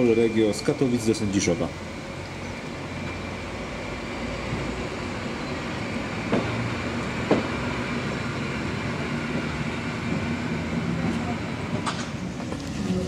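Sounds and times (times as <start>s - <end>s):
train running noise with low hum: 0.0s - 13.0s.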